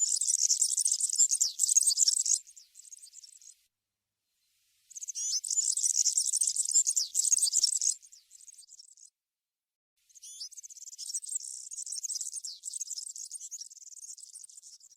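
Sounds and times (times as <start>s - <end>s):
bird singing jingling twitter: 0.0s - 3.5s, 5.0s - 9.1s, 10.2s - 14.9s.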